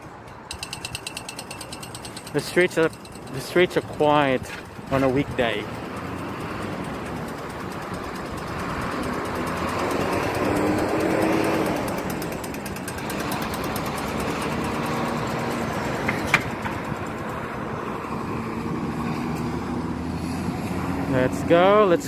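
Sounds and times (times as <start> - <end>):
vehicle passing: 0.1 - 22.0.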